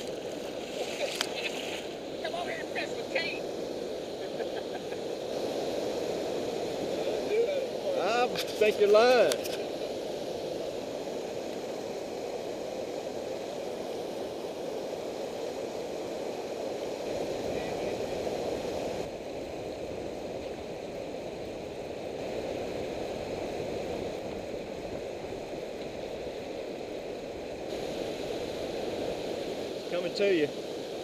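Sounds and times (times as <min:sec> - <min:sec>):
river water rushing over rapids: 0:00.0 - 0:31.0.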